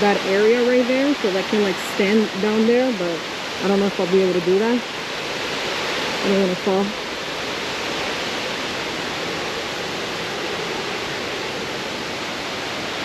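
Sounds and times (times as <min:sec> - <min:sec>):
fast-flowing river water: 0:00.0 - 0:13.0.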